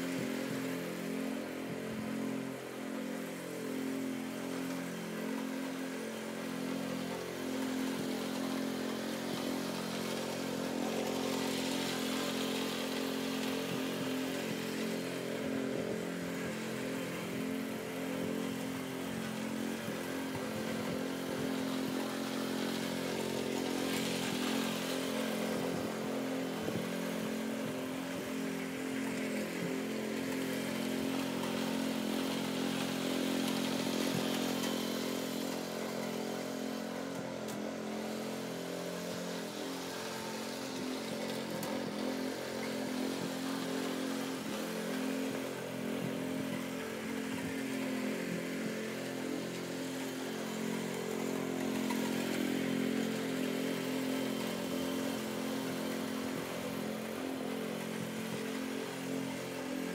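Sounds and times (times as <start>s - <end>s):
lawn tractor engine running: 0.0s - 59.9s.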